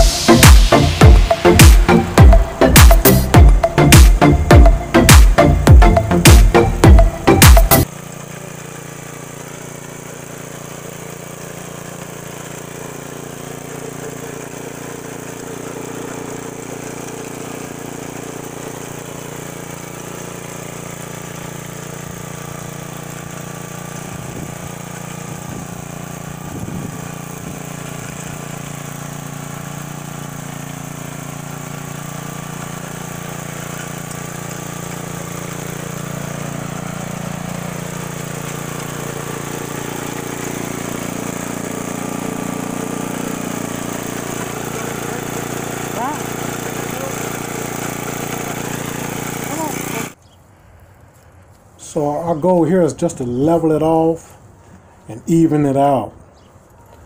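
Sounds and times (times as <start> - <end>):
rototiller engine running: 0.0 - 57.0.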